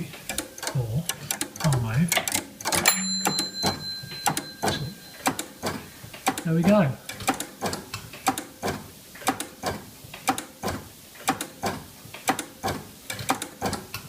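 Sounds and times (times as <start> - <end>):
electric clock ticking and clicking: 0.0 - 14.0.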